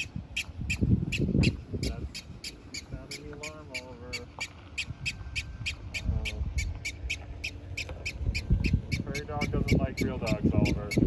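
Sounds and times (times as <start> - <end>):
prairie dog high chirps: 0.0 - 11.0.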